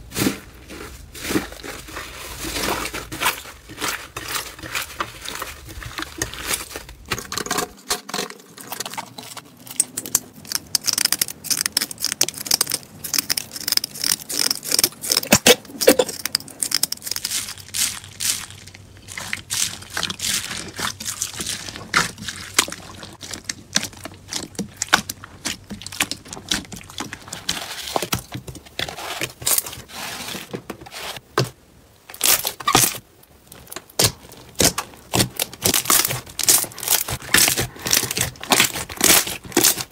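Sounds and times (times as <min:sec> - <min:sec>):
slime crackling and squishing: 0:00.0 - 0:39.9.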